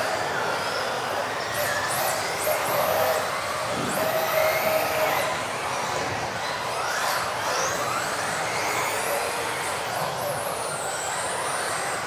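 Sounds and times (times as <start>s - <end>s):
electric rc buggy motors whining: 0.0s - 12.0s.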